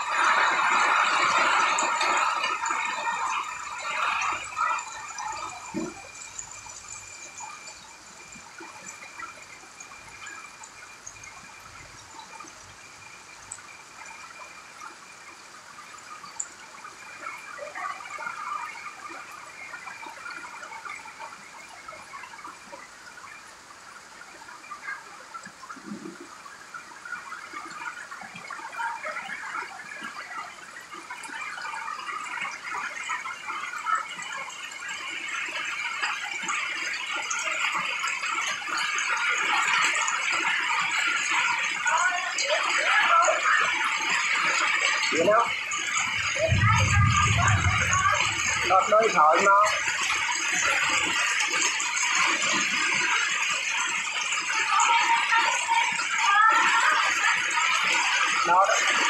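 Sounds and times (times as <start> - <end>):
heavy rain on vegetation: 0.0 - 22.2, 31.0 - 59.0.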